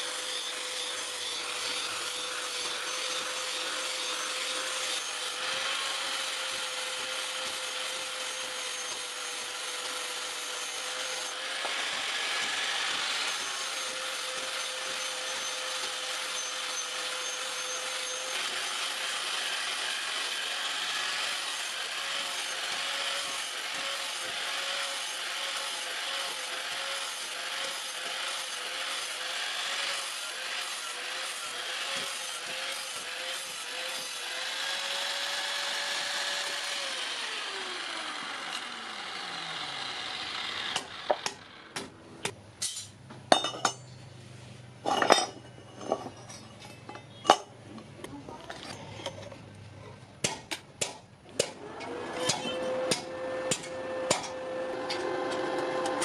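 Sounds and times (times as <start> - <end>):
power grinder grinding steel: 0.0 - 41.8, 51.3 - 56.0.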